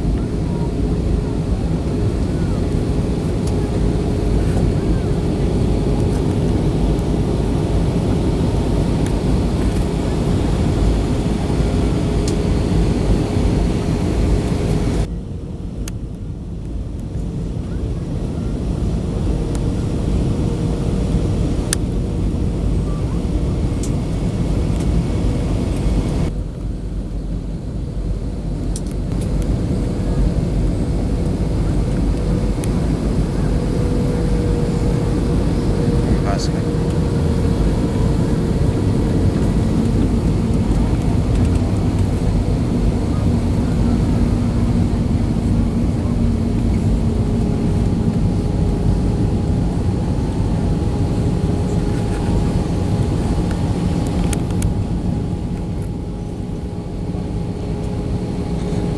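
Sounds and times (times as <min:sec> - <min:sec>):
constant low hum: 0:00.0 - 0:58.9
jet engines and airflow rushing: 0:00.0 - 0:58.9.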